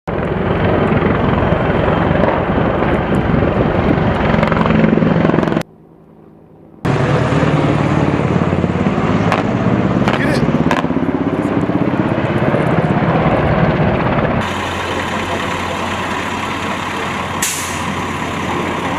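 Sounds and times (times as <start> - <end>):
helicopter rotor beating: 0.1 - 18.9.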